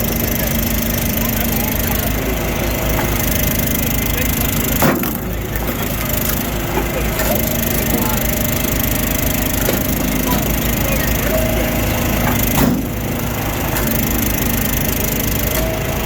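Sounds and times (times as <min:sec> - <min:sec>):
log splitter engine running: 0:00.0 - 0:16.0.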